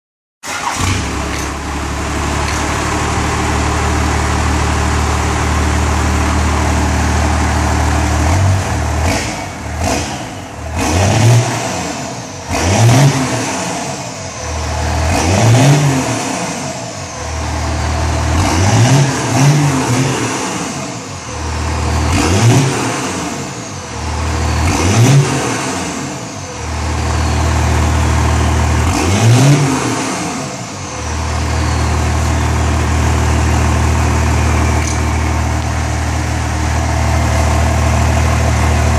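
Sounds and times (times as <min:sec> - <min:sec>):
diesel engine idling and revving: 0:00.4 - 0:38.9.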